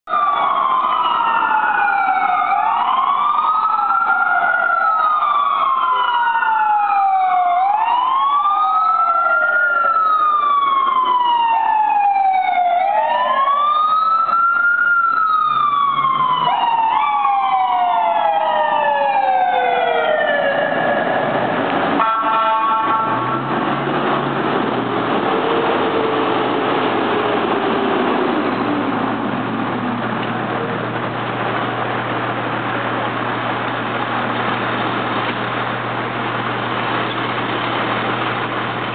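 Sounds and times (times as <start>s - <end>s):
fire engine sirens wailing: 0.1s - 38.9s.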